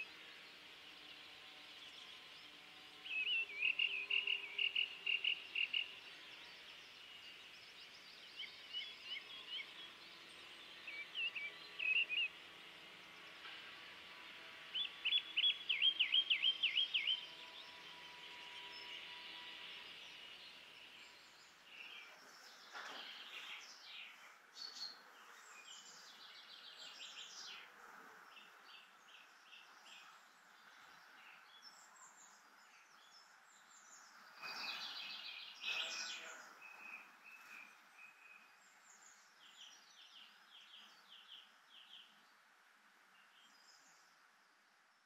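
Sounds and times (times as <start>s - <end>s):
outdoor ambience hiss: 0.0s - 45.0s
songbirds chirping: 0.0s - 45.0s.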